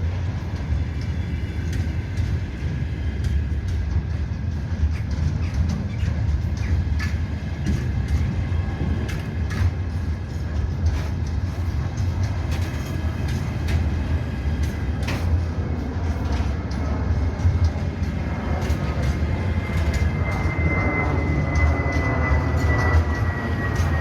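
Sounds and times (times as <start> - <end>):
freight train wheels rumbling: 0.0 - 24.0
train clicks and knocks: 0.0 - 24.0.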